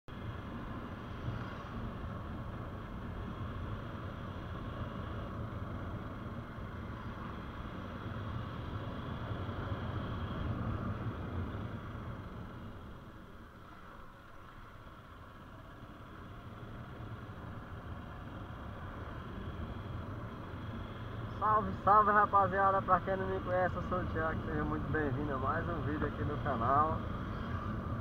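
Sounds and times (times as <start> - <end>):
low wind rumble: 0.1 - 28.0
moving vehicle running noise: 0.1 - 28.0.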